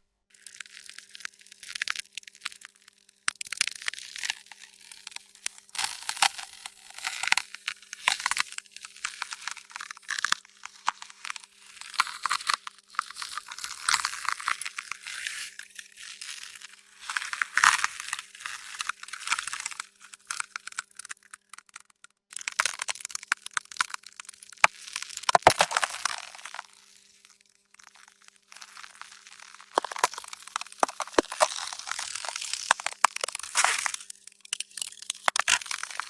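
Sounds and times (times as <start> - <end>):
ice cracking and snapping: 0.3 - 36.0.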